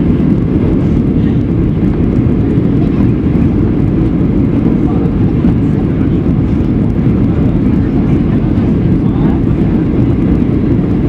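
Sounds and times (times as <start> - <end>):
jet engines rumbling in cabin: 0.0 - 11.0
rushing airflow: 0.0 - 11.0.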